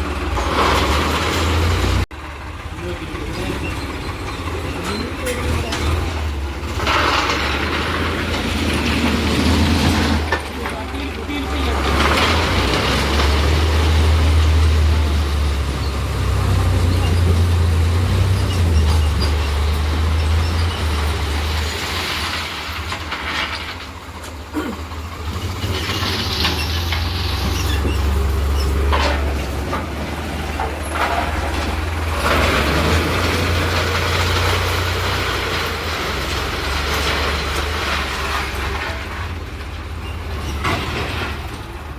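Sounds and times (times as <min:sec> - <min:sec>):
tractor diesel engine droning: 0:00.0 - 0:41.9
clattering mechanical noise: 0:02.8 - 0:41.9.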